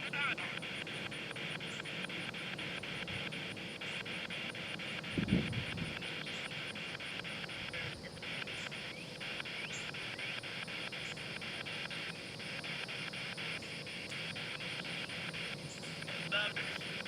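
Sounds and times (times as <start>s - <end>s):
choppy radio static hiss: 0.0s - 17.0s.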